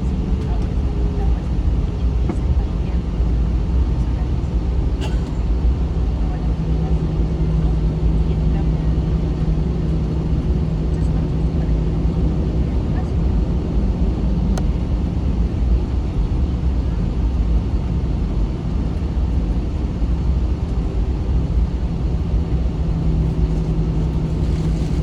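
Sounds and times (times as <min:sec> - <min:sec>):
aircraft cabin rumble and hum: 0:00.0 - 0:25.0.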